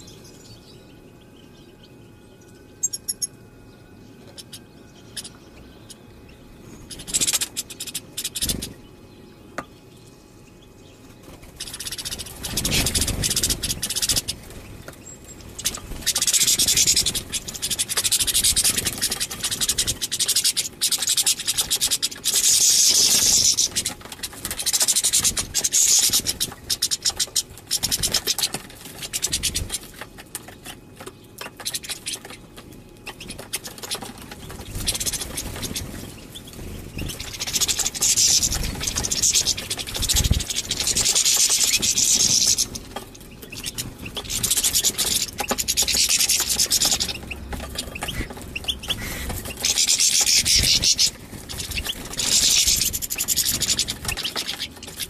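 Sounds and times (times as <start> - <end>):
birds twittering: 0.0 - 55.0.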